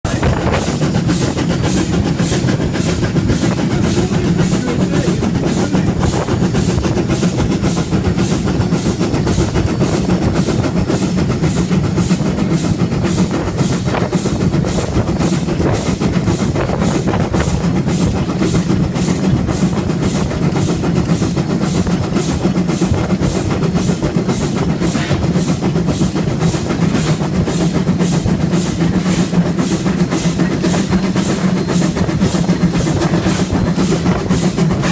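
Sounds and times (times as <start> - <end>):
low engine rumble: 0.0 - 34.9
steam locomotive exhaust chuffing: 0.0 - 34.9.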